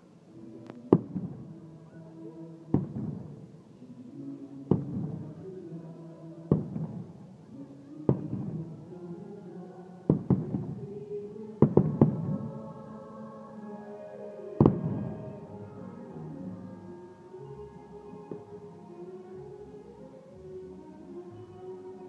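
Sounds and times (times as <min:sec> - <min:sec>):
fireworks show music: 0:00.1 - 0:22.0.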